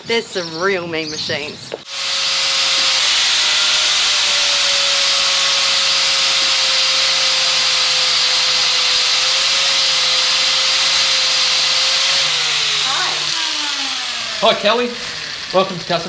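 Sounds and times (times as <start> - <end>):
angle grinder cutting metal: 1.8 - 16.0.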